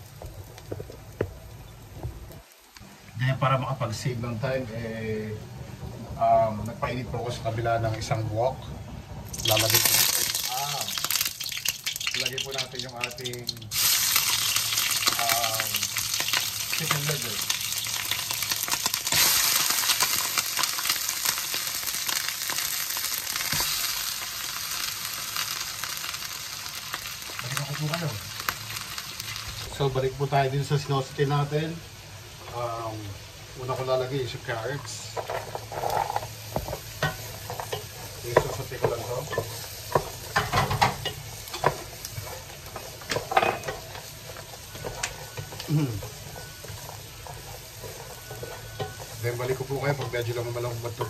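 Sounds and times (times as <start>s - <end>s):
livers sizzling in hot oil: 0.0s - 51.0s.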